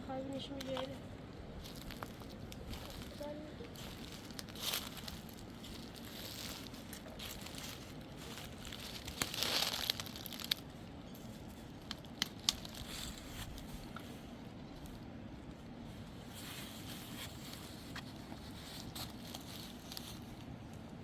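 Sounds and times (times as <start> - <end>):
crinkling rustling handling noise: 0.3 - 21.0.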